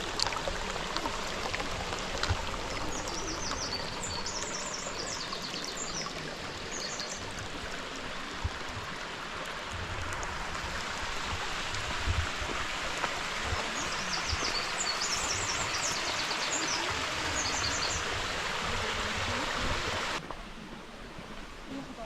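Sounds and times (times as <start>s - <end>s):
stream water rushing: 0.0s - 20.2s.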